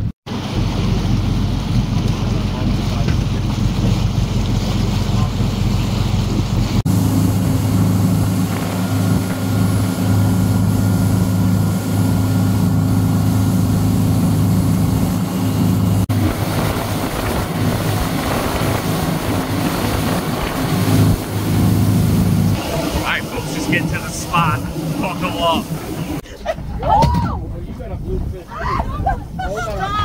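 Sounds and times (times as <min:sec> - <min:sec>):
boat engine droning: 0:00.0 - 0:26.3
churning wake rushing: 0:00.0 - 0:30.0
wind on microphone: 0:00.4 - 0:25.0.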